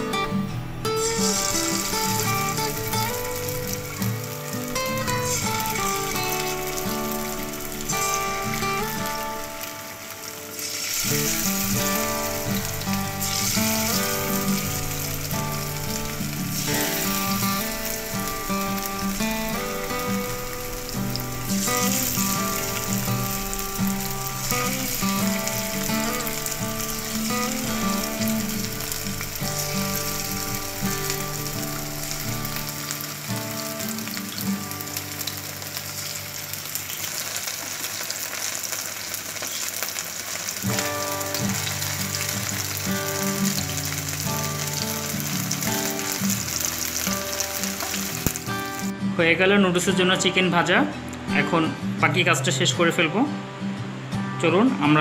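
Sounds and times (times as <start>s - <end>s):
background music: 0.0s - 37.2s, 40.6s - 55.0s
chicken frying in a pan: 1.0s - 48.9s.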